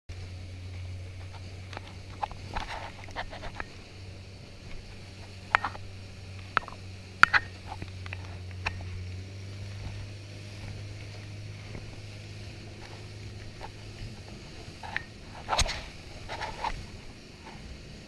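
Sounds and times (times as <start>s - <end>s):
outboard motor humming: 0.1s - 18.0s.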